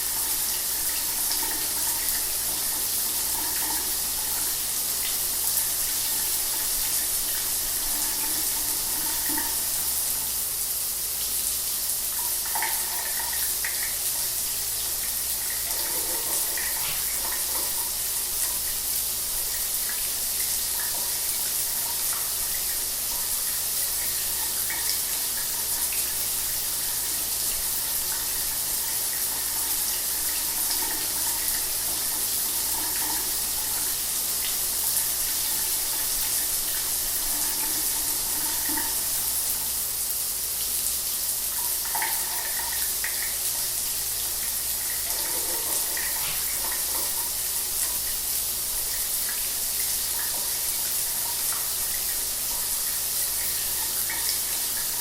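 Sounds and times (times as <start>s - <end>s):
shower running: 0.0s - 55.0s.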